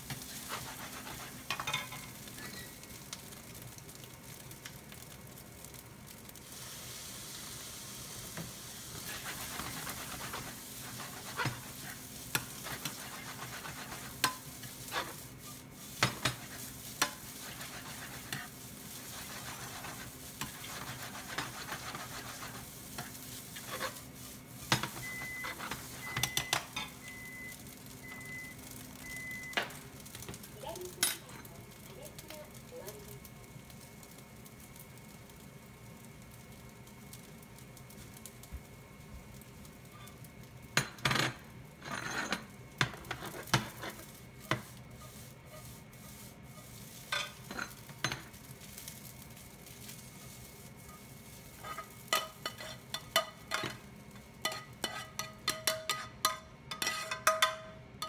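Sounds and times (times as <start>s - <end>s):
rice sizzling in a frying pan: 0.0s - 58.0s.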